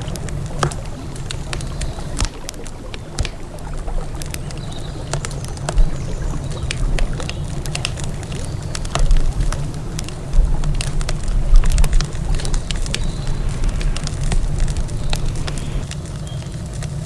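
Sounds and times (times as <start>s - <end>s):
low steady rumble: 0.0s - 15.9s
campfire crackling and popping: 0.0s - 17.0s.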